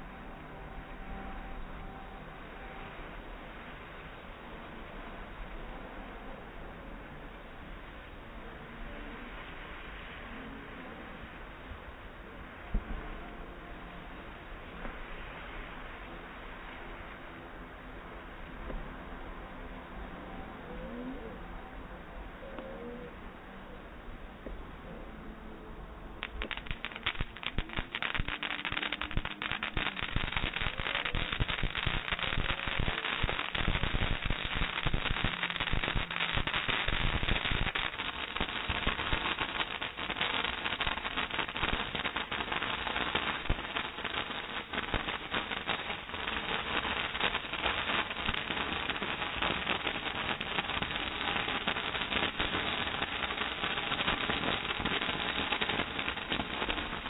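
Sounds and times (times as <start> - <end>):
firework fountains crackling: 0.0 - 19.7, 26.1 - 57.0.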